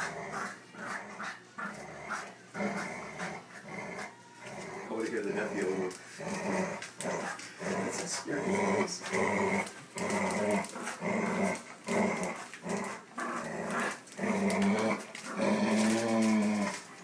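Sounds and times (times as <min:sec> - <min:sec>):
dogs growling in play: 0:00.0 - 0:17.0.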